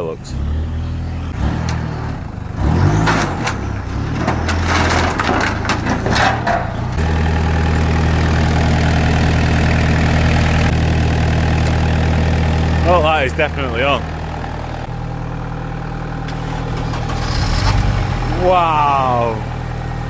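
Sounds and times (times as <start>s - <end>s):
car engine cranking and idling: 0.0s - 20.0s.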